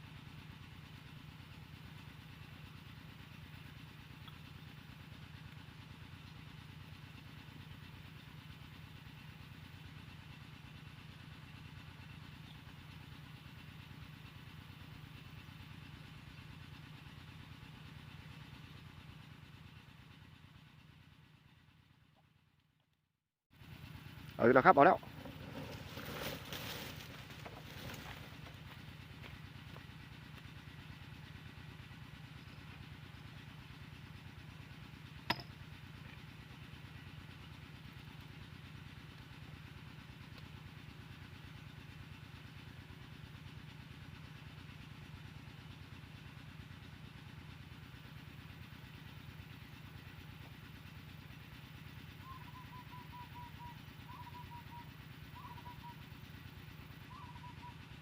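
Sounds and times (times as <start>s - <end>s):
small engine running: 0.0s - 22.8s, 23.5s - 58.0s.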